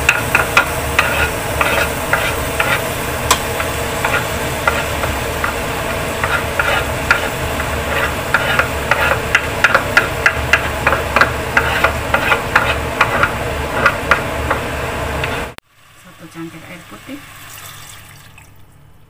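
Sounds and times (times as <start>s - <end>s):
metal spoon scraping cutting board: 0.0s - 15.4s
steady low hum: 0.0s - 17.0s.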